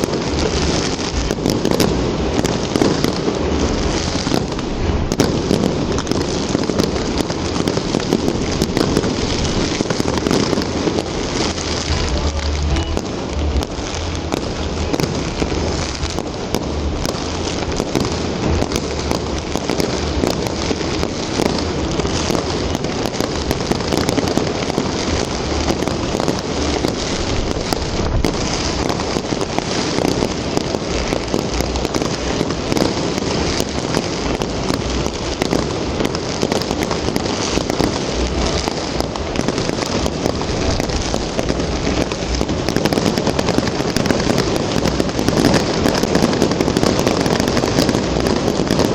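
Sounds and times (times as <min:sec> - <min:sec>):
fireworks crackling: 0:00.0 - 0:48.9.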